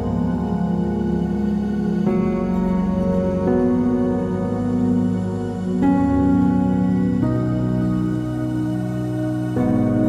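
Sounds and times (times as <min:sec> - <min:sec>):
slow new-age chords: 0:00.0 - 0:10.0.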